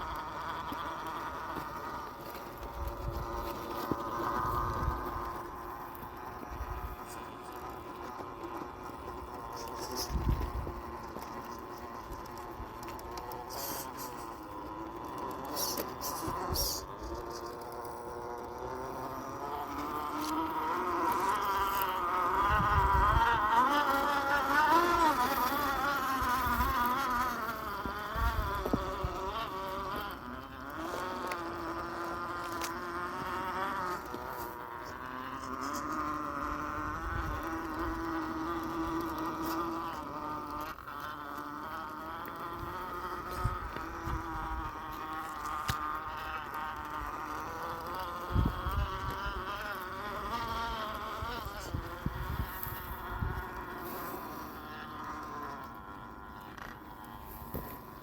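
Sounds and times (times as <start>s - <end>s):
rc car electric motor whining: 0.0s - 58.0s.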